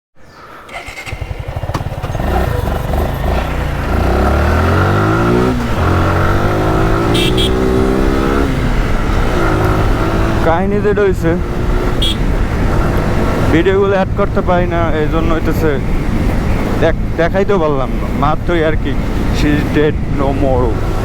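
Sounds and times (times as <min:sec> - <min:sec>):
motorcycle engine accelerating: 0:00.7 - 0:21.0.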